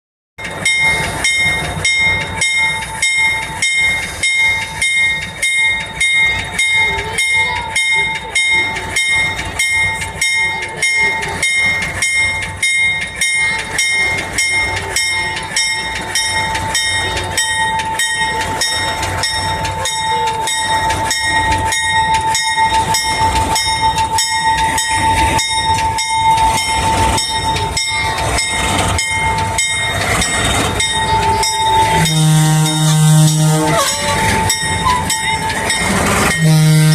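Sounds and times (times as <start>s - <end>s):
bell ringing: 0.4s - 36.9s
diesel locomotive rumble: 0.4s - 36.9s.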